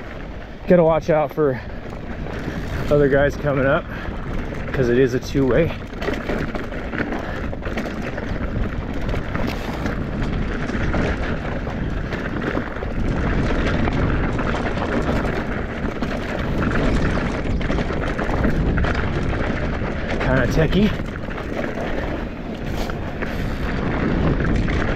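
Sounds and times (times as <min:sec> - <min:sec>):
bike rattling: 0:00.0 - 0:24.9
bike tyres rolling over rocks: 0:00.0 - 0:24.9
wind rumble on microphone: 0:00.0 - 0:24.9.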